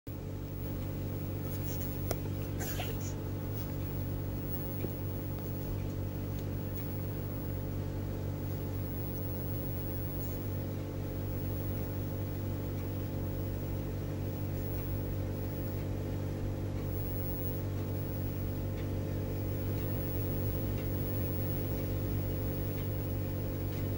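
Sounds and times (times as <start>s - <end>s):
cat purring: 1.2s - 23.9s.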